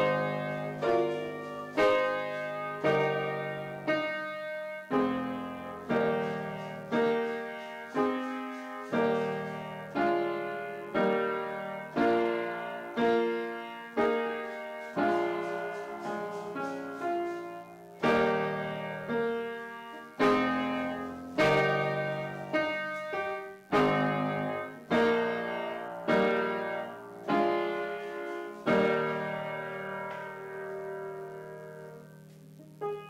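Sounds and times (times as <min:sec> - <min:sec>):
piano chords ringing: 0:00.0 - 0:33.0.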